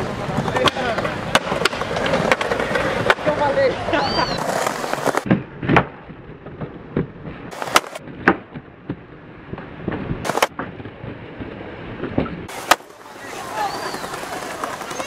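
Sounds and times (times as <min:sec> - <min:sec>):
skateboards rolling on concrete: 0:00.0 - 0:15.0
skateboard pops and clacks: 0:00.3 - 0:03.4, 0:04.4 - 0:10.8, 0:11.4 - 0:15.0.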